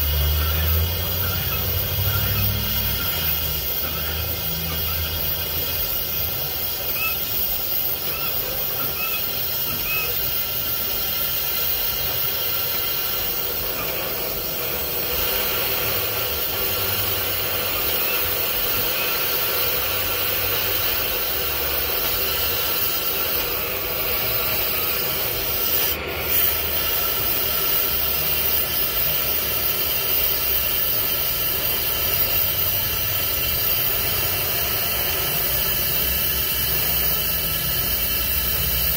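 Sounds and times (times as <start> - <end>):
gas torch hissing: 0.0 - 38.9.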